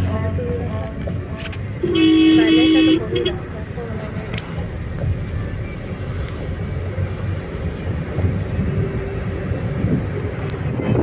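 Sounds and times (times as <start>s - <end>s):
moving vehicle rumble: 0.0s - 11.0s.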